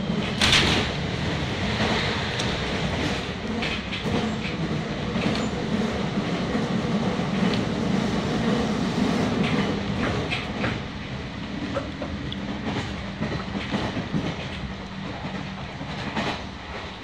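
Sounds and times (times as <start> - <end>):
train running noise with hum: 0.0 - 17.0.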